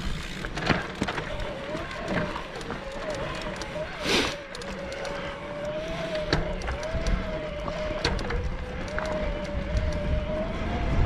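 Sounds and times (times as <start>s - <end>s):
electric motor whining: 1.2s - 11.0s.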